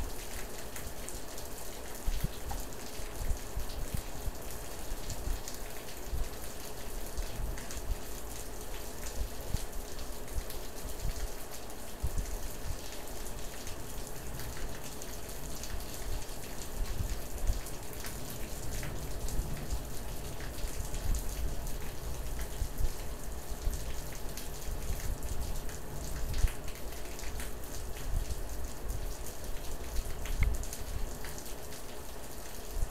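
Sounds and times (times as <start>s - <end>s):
rain falling: 0.0s - 32.9s.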